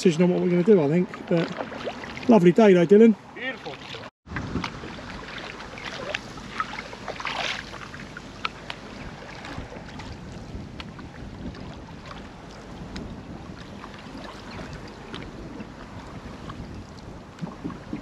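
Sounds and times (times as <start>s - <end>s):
water lapping at hull: 0.0s - 18.0s
paddle splashing in water: 0.4s - 2.7s, 3.3s - 18.0s.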